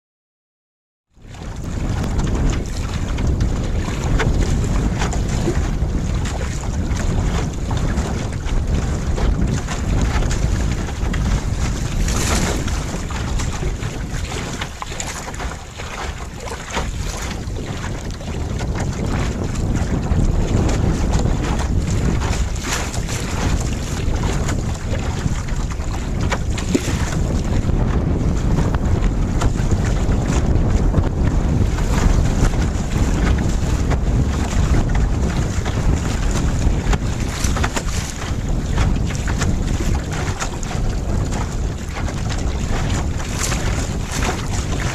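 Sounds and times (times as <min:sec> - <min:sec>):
water splashing along hull: 0:01.1 - 0:44.9
wind buffeting microphone: 0:01.2 - 0:44.9.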